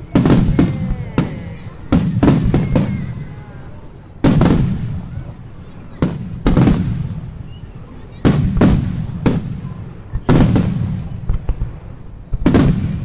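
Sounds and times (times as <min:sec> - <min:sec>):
firework shells booming: 0:00.0 - 0:07.5, 0:08.2 - 0:13.0.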